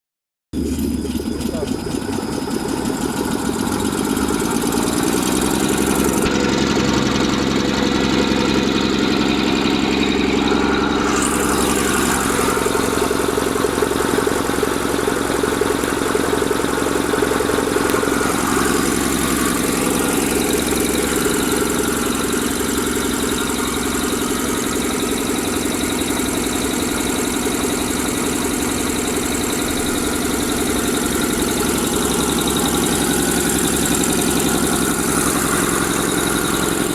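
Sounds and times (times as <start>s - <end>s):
air compressor chugging: 0.6s - 36.9s.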